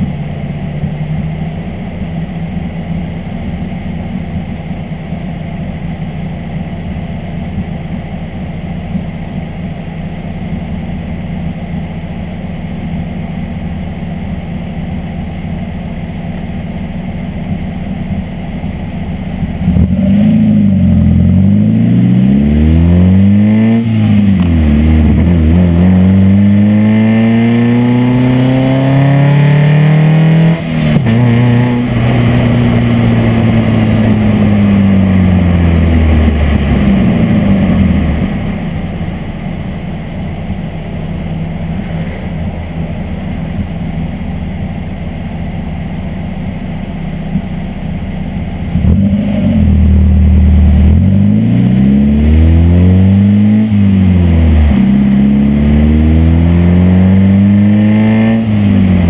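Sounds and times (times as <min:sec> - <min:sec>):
car engine idling and accelerating: 0:00.0 - 0:59.0.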